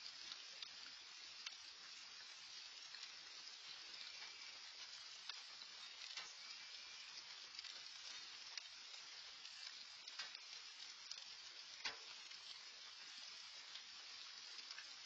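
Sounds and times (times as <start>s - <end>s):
light rain hiss: 0.0s - 15.0s
raindrops ticking: 0.0s - 15.0s.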